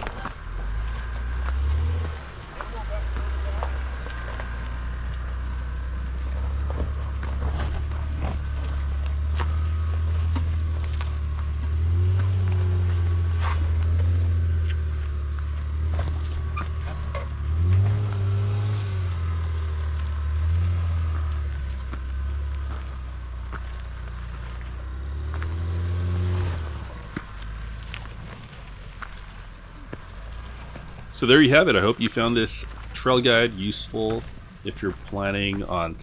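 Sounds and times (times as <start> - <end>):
tyres crunching on stone: 0.0 - 31.4
suv engine climbing: 0.0 - 36.0.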